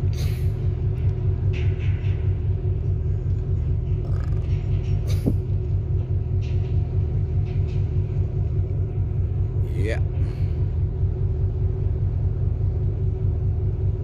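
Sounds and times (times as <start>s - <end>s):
ship engine rumbling: 0.0s - 14.0s.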